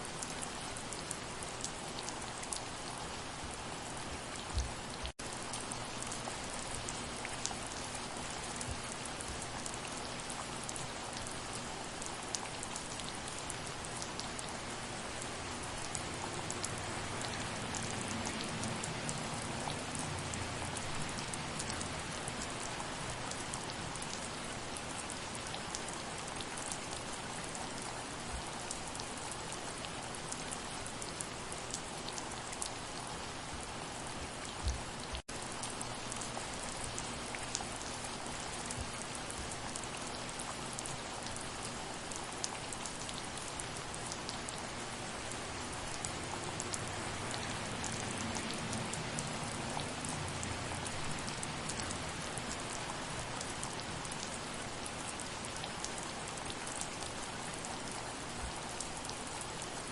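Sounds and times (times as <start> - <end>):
soft steady rain: 0.0 - 59.9.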